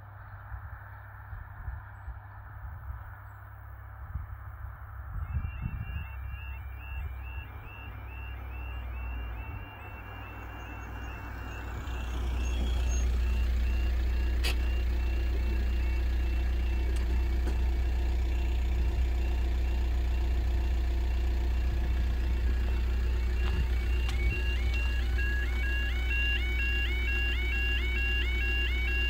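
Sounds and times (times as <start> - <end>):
electronic two-tone warning alarm: 5.1 - 29.0.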